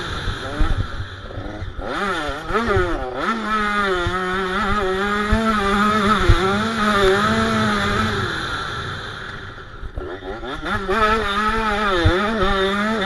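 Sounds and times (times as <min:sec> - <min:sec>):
two-stroke engine at high revs: 0:00.0 - 0:13.0.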